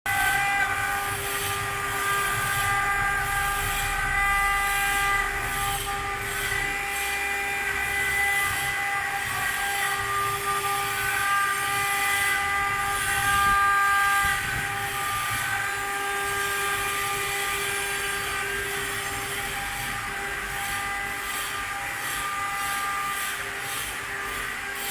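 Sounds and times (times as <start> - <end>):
engraving machine spindle whine: 0.1 - 24.9.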